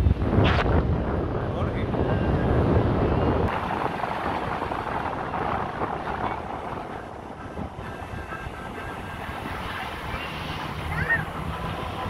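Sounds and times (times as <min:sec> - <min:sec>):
off-road vehicle driving on sand: 0:00.0 - 0:12.0.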